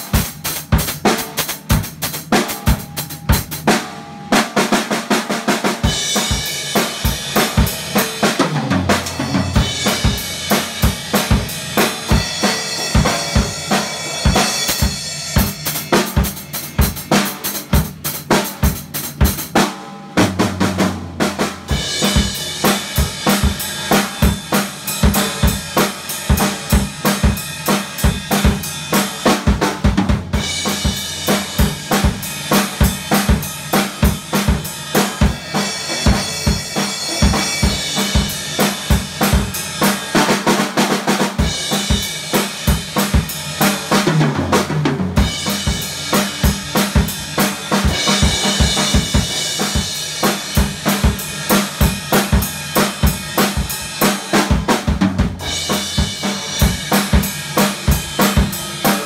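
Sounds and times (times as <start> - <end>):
acoustic drum kit playing fast: 0.0 - 59.0.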